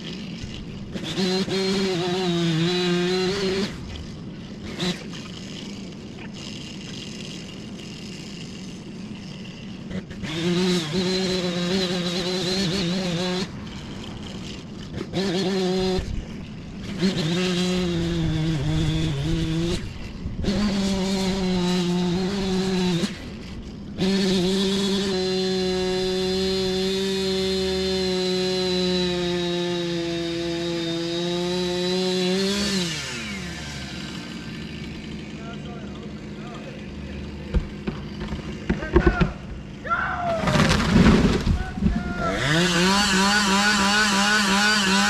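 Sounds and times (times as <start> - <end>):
chainsaw revving: 0.0 - 45.0.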